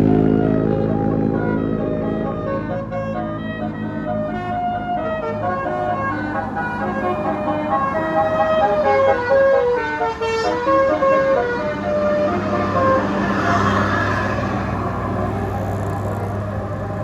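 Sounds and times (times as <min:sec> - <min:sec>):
bus engine running: 0:00.0 - 0:17.0
multi-tone bus horn melody: 0:00.0 - 0:17.0.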